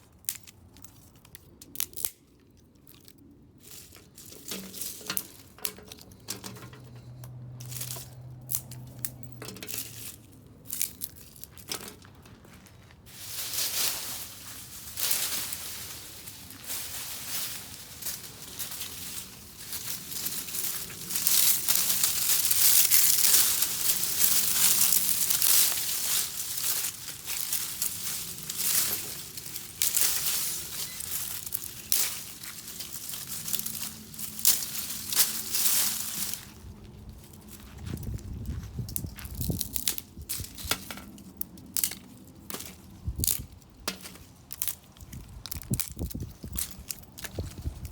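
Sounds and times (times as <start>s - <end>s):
branches and twigs snapping: 0.2s - 6.4s, 7.0s - 12.3s, 13.2s - 37.4s, 38.8s - 47.9s.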